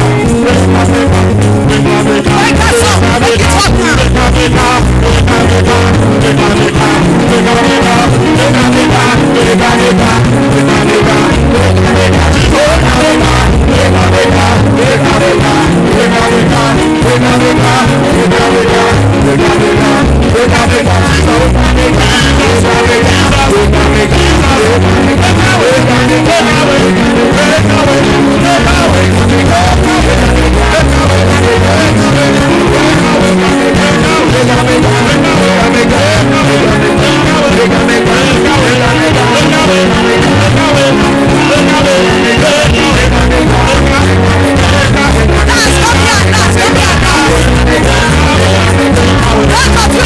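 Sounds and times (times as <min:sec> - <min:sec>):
music with stepping bass line: 0:00.0 - 0:50.0
singing: 0:00.0 - 0:50.0.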